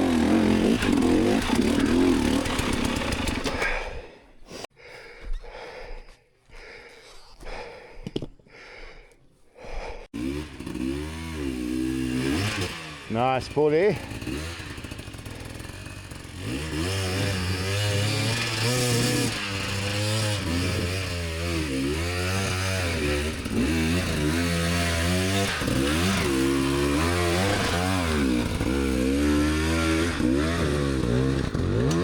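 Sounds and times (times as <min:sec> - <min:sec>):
dirt bike engine revving: 0:00.0 - 0:03.9, 0:10.2 - 0:32.0.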